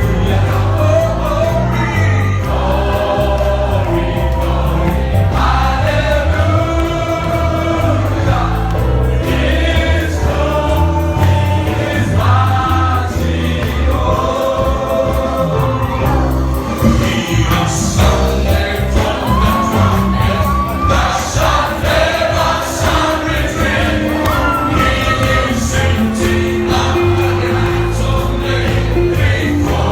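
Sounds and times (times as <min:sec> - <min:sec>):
bass line: 0:00.0 - 0:29.9
drum beats: 0:00.0 - 0:29.9
gospel choir singing: 0:00.0 - 0:29.9.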